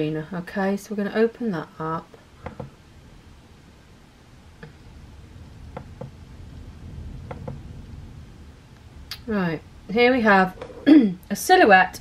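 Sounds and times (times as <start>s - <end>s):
faint low room hum: 0.0s - 12.0s.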